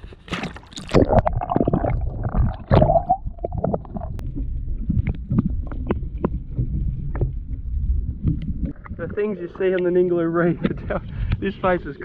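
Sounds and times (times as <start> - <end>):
rumbling water: 0.0 - 12.0
wind noise: 0.9 - 12.0.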